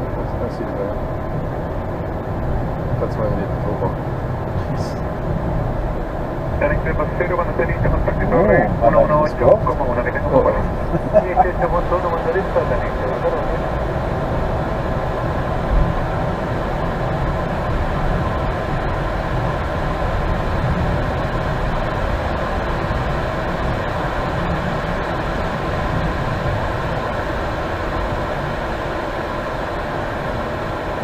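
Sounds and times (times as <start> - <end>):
constant hum: 0.0 - 31.0
jet engines idling: 0.0 - 31.0.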